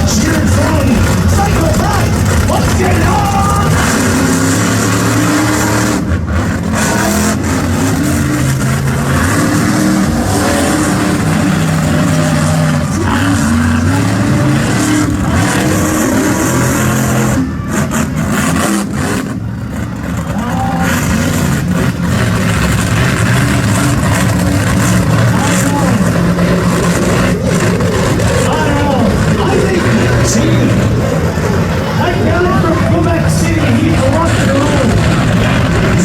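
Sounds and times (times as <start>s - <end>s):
truck engines revving: 0.0s - 36.0s.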